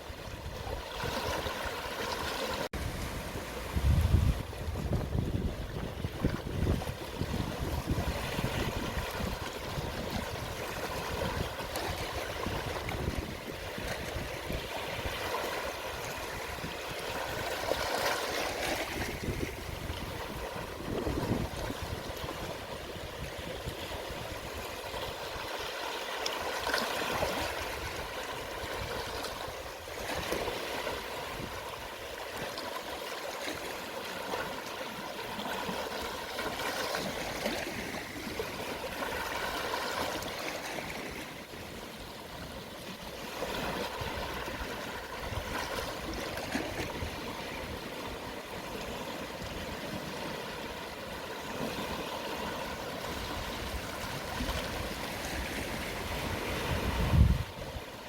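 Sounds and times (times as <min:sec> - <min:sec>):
gentle waves washing on shore: 0:00.0 - 0:58.0.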